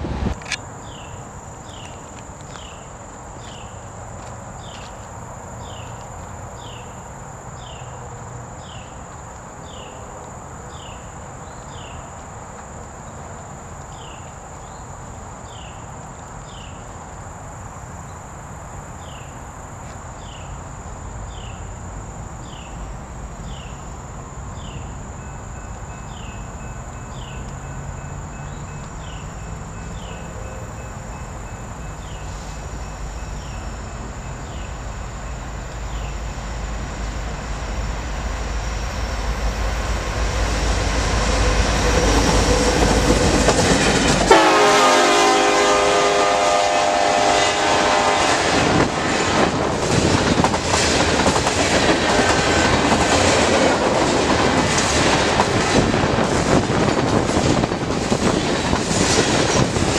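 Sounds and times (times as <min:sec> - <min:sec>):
train rumbling: 0:00.0 - 0:59.9
insects droning: 0:00.3 - 0:59.9.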